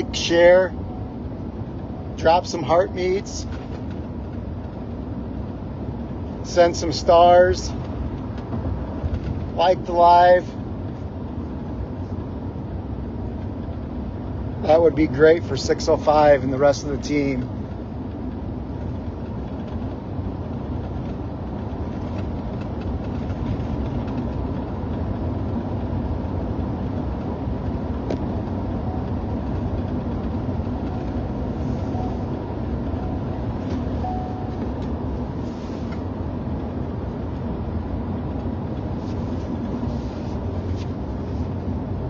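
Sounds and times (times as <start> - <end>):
road and engine noise in car: 0.0 - 42.0.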